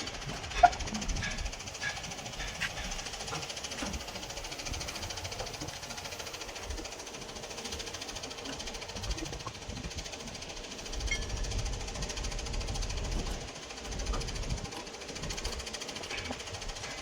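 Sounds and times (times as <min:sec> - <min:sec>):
machine clattering: 0:00.0 - 0:17.0.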